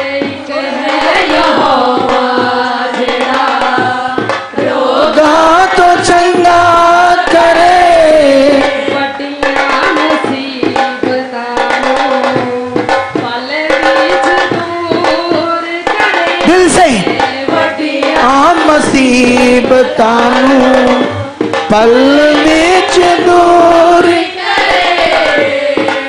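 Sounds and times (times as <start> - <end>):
hand drum rhythm: 0.0 - 26.0
woman singing into microphone: 0.0 - 26.0.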